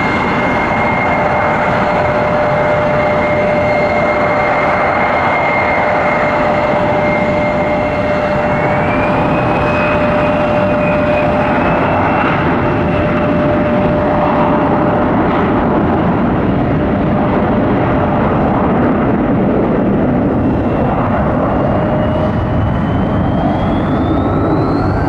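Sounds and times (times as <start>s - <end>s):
higher engine whine: 0.0s - 25.0s
jet engines whining: 0.0s - 25.0s.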